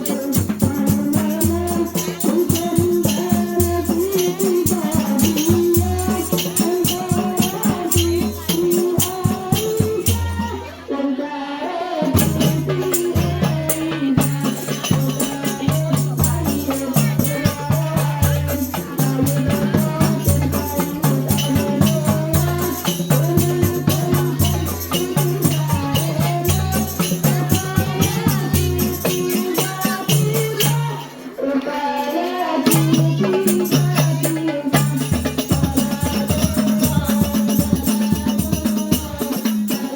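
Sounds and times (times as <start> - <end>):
frame drums and low drums beating: 0.0 - 10.8, 12.1 - 31.1, 32.7 - 39.9
voices singing a devotional song: 0.0 - 39.9.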